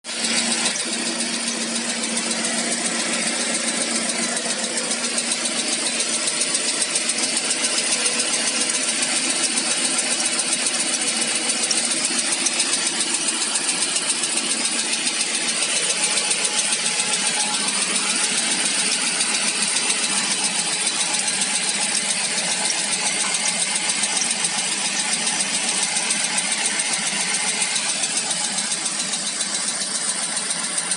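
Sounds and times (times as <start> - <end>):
petrol engine running: 0.1 - 30.9
rapid even engine knock: 0.1 - 30.9.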